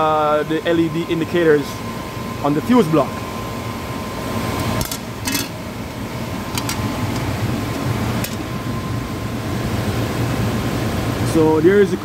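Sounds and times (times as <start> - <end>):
air conditioning unit humming: 0.0 - 12.0.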